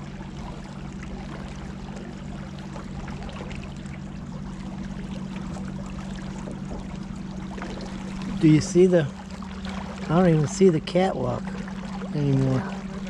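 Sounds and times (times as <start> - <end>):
boat motor humming: 0.0 - 13.0
water rushing past boat hull: 0.0 - 13.0.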